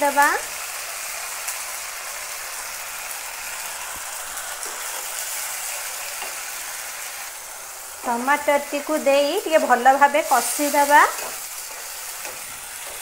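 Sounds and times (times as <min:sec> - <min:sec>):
masala frying in hot oil: 0:00.0 - 0:13.0
steady sizzling hiss: 0:00.0 - 0:13.0.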